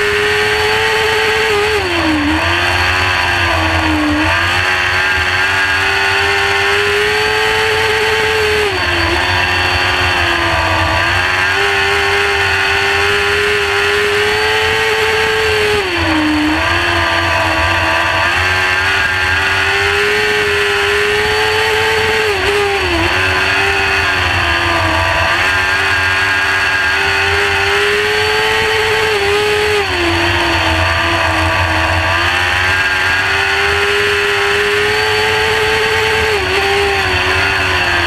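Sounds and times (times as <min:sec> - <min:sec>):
race car engine at high revs: 0:00.0 - 0:38.0.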